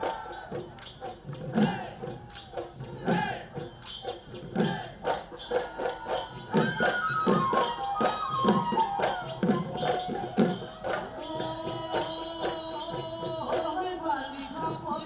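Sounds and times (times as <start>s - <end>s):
dhol drums beating: 0.0s - 15.0s.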